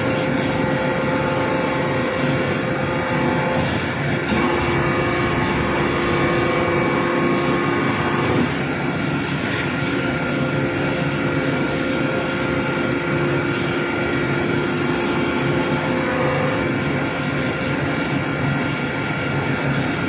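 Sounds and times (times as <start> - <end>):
baler machine hum: 0.0 - 20.0.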